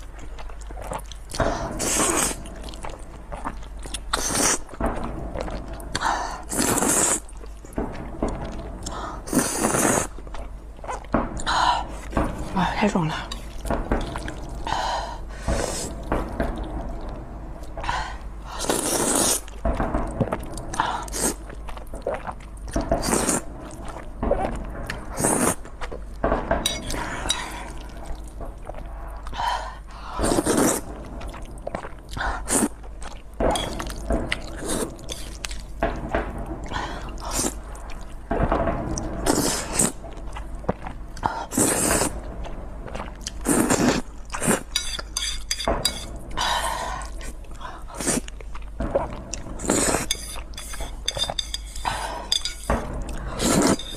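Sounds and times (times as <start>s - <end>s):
wet chewing: 0.0s - 12.5s, 13.3s - 35.8s, 38.9s - 53.9s.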